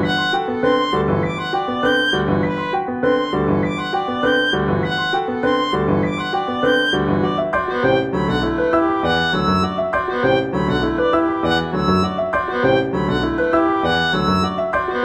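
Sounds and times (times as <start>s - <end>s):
instrumental piano music: 0.0s - 15.0s.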